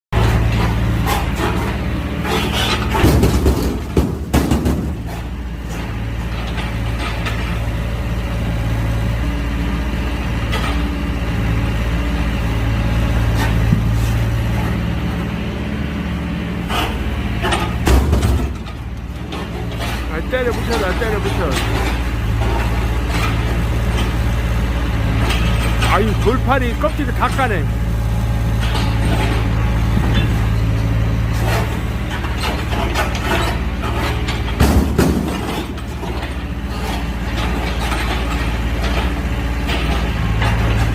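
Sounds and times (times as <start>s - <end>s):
excavator diesel engine running: 0.1s - 40.9s.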